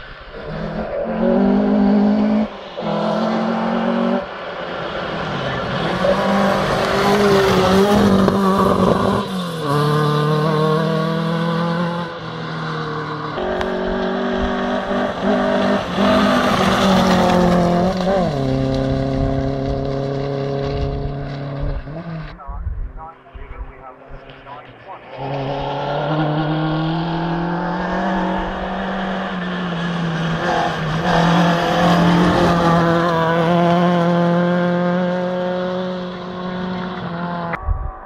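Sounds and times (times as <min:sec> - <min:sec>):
rally car engines revving: 0:00.0 - 0:37.6.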